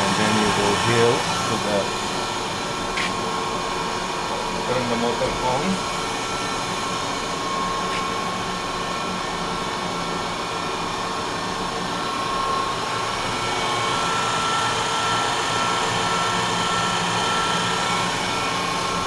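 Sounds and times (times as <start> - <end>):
grinder whirring hum: 0.0 - 19.0.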